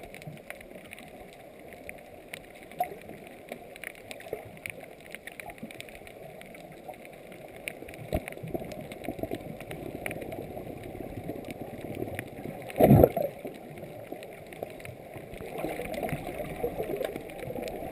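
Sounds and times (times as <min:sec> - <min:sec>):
faint clicks and crackles: 0:00.0 - 0:17.9
muffled underwater water: 0:00.0 - 0:17.9.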